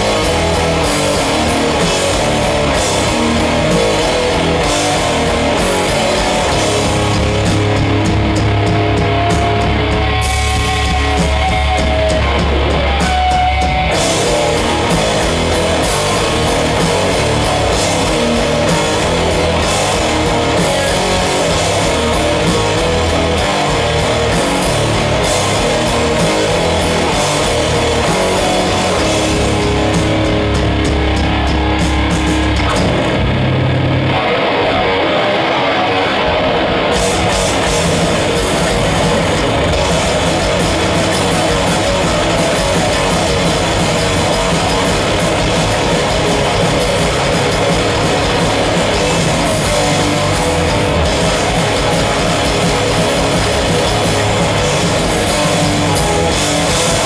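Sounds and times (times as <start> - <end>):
heavy metal band playing: 0.0 - 57.0.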